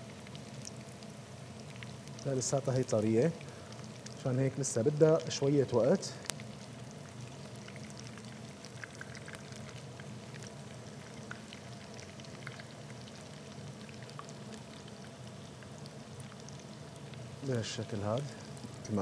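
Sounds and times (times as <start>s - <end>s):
low steady hum: 0.0s - 19.0s
oil popping and crackling: 0.0s - 19.0s
patties sizzling in oil: 0.0s - 19.0s.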